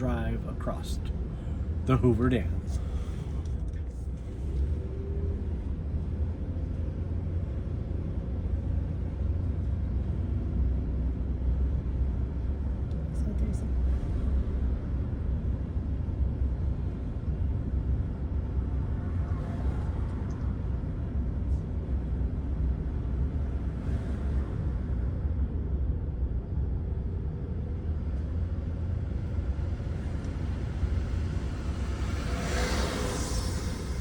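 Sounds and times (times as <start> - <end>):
car interior road and engine rumble: 0.0 - 34.0.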